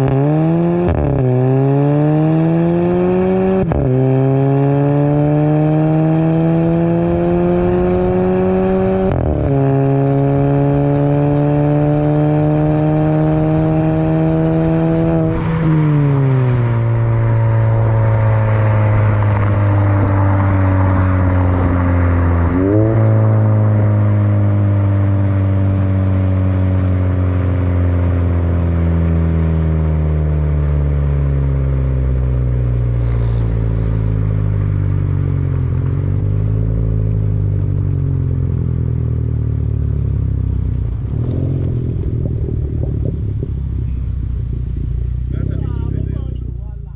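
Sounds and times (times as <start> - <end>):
car exhaust revving: 0.0 - 46.9.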